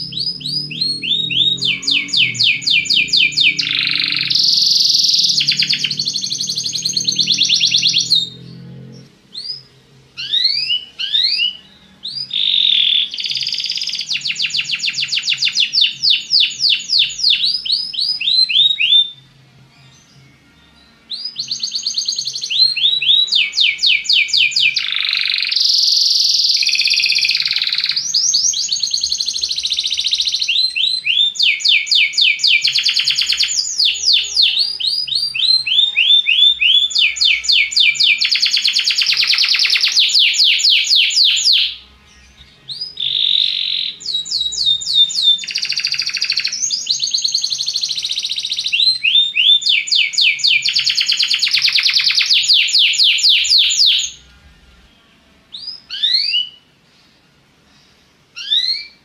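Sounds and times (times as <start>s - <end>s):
canary singing trills: 0.0s - 57.1s, 57.7s - 59.0s.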